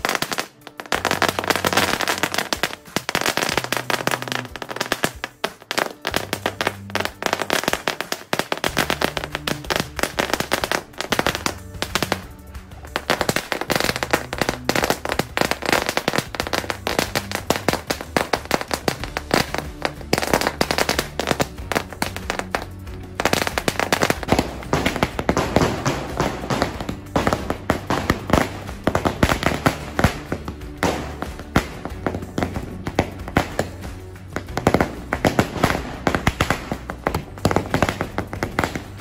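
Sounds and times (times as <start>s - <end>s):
firecrackers going off rapidly: 0.0s - 39.0s
music: 0.0s - 39.0s.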